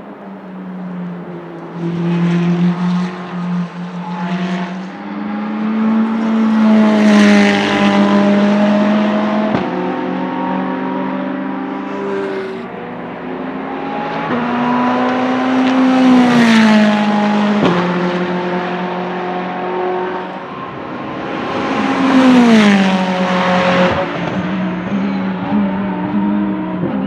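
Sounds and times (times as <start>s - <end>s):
race cars passing by: 0.0s - 27.0s.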